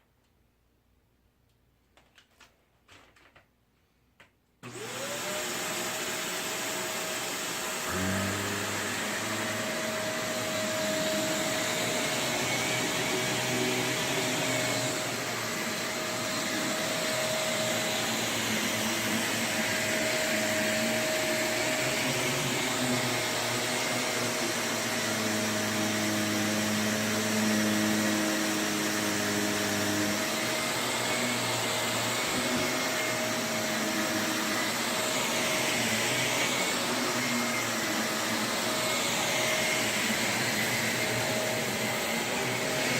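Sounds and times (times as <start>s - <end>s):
vacuum cleaner running: 4.6s - 42.9s.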